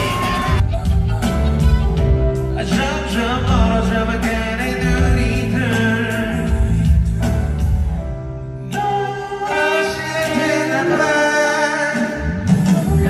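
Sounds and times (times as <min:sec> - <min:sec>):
man singing: 0:00.0 - 0:07.6, 0:08.6 - 0:13.0
heavy bass: 0:00.0 - 0:11.0, 0:12.0 - 0:13.0
backing music: 0:00.0 - 0:13.0.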